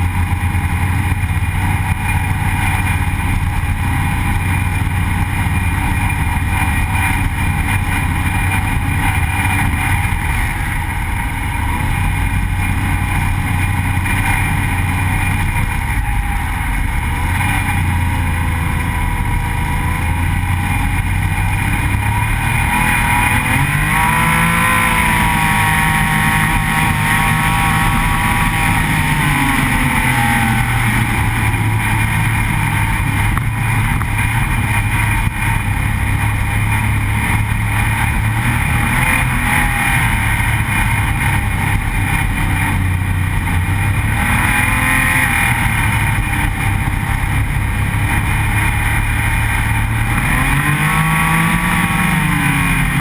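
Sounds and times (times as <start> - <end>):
snowmobile engine running: 0.0 - 53.0.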